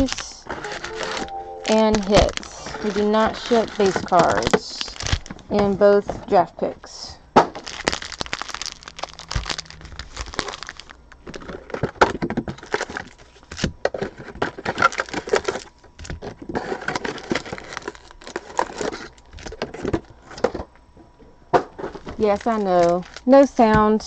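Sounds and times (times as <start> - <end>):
plastic packaging crackling: 0.0 - 6.3, 7.4 - 20.5, 21.8 - 24.0.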